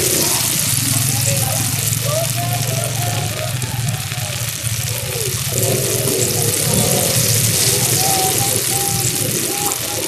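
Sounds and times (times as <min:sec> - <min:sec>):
oil sizzling and bubbling: 0:00.0 - 0:10.0.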